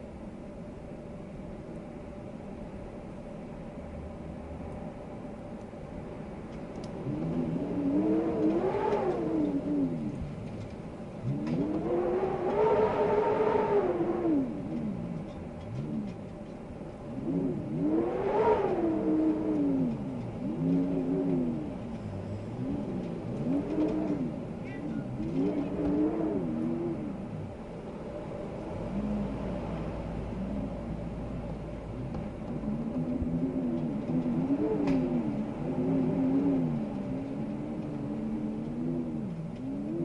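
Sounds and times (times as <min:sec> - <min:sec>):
wind howling in gusts: 0:00.0 - 0:40.0.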